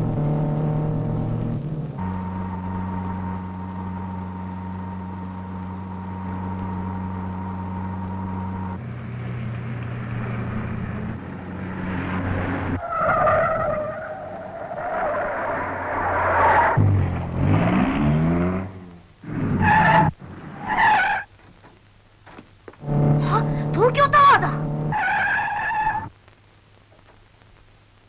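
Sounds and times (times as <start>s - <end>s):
cartoon car engine drone: 0.0s - 20.2s, 22.8s - 25.3s
tires screeching: 0.0s - 21.8s, 22.8s - 26.1s.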